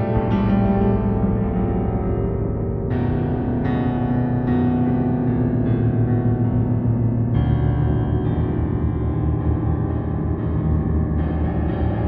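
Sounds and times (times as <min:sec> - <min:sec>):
electric piano chords: 0:00.0 - 0:12.0.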